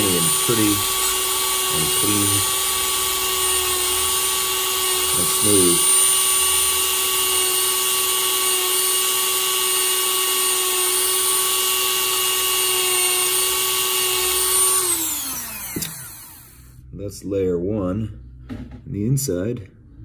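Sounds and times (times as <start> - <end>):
rotary tool high whine: 0.0 - 16.8
rotary tool motor spinning down: 0.0 - 16.8.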